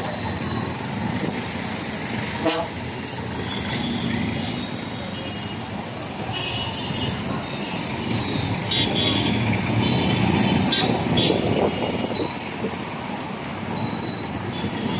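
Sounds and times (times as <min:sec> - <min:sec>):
vehicle engines passing: 0:00.0 - 0:05.1, 0:07.1 - 0:14.9.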